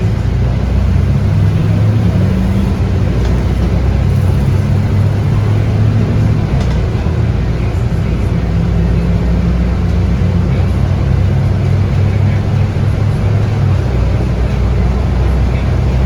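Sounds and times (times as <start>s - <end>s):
diesel bus engine drone: 0.0s - 16.0s
road noise: 0.0s - 16.0s.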